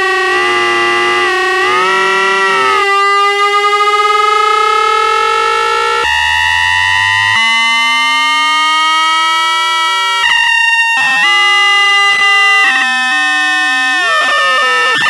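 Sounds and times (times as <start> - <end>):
synthesizer siren-like rising tone: 0.0 - 15.0.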